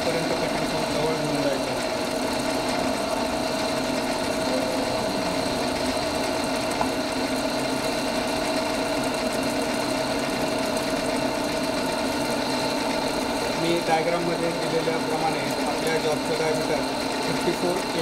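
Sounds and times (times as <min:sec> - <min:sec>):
lathe humming: 0:00.0 - 0:18.0.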